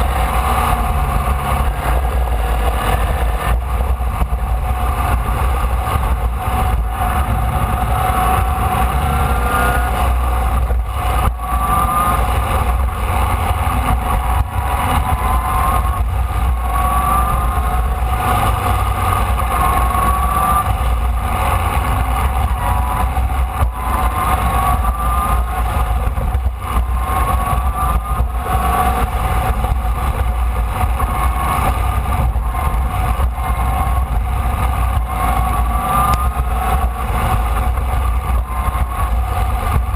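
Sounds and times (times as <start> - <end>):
race car engine accelerating: 0.0 - 39.9
wind rumble: 0.0 - 39.9.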